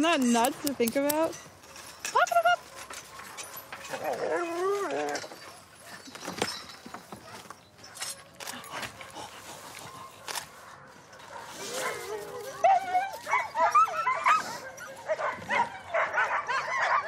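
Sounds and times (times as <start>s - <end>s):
light clicks and rustles: 0.0s - 15.6s
dogs whining and yipping: 1.6s - 17.0s.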